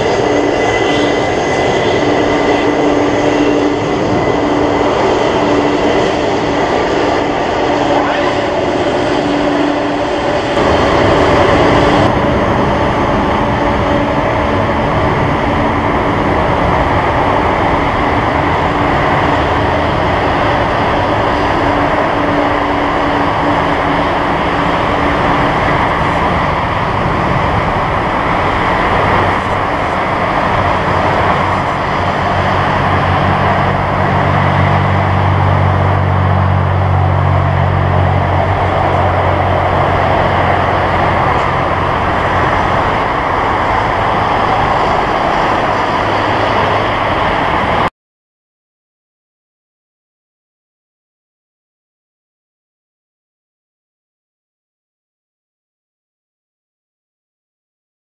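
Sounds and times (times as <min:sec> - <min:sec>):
jet engines running: 0:00.0 - 0:47.9
steady whine: 0:00.0 - 0:47.9.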